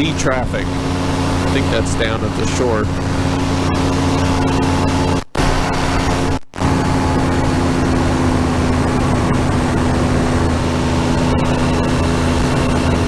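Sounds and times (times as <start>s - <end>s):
engine and propeller droning: 0.0s - 13.0s.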